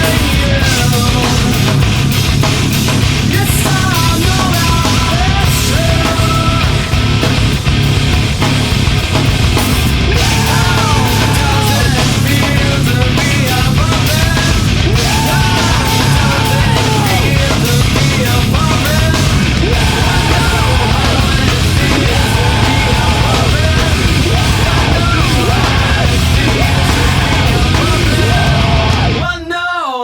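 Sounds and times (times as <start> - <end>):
nu metal band playing: 0.0 - 29.7.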